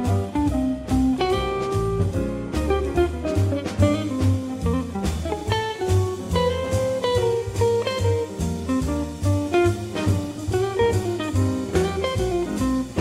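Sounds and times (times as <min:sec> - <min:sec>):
bass: 0:00.0 - 0:13.0
drums: 0:00.0 - 0:13.0.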